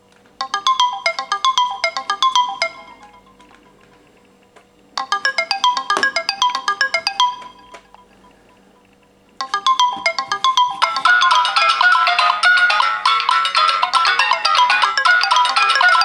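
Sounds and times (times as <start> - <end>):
phone ringtone melody: 0.4 - 4.1, 5.0 - 16.0
alarm tone melody: 0.4 - 4.2, 5.0 - 16.0.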